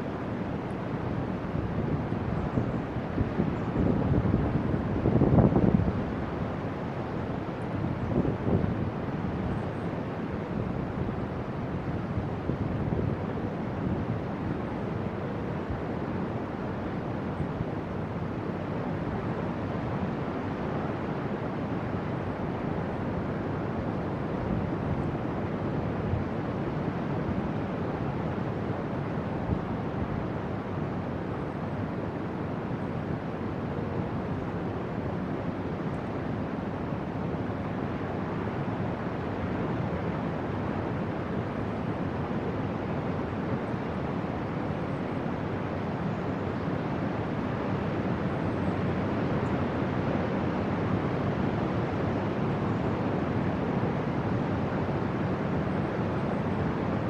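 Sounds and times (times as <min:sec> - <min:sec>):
distant ocean surf: 0:00.0 - 0:57.0.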